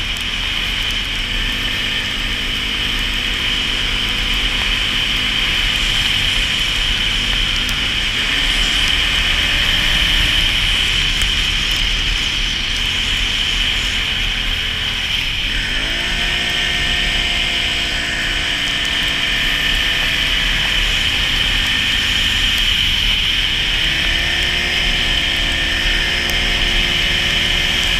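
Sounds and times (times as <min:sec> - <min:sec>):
atv engine running: 0:00.0 - 0:27.9
steady rushing noise: 0:00.0 - 0:27.9.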